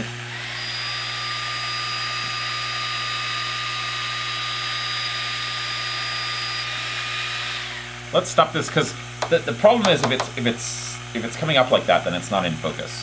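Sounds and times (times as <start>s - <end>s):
thin steady whines: 0.0s - 12.9s.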